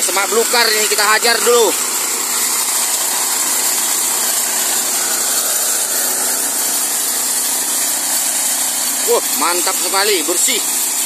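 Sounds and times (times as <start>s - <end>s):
cutting brush: 0.0s - 11.0s
small engine running: 0.0s - 11.0s.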